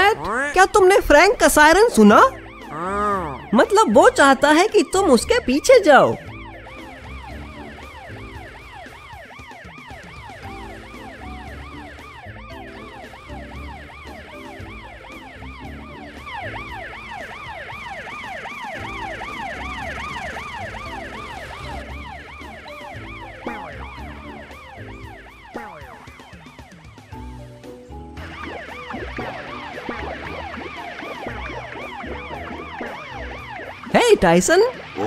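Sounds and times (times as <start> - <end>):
cartoon fire truck siren: 0.0 - 35.0.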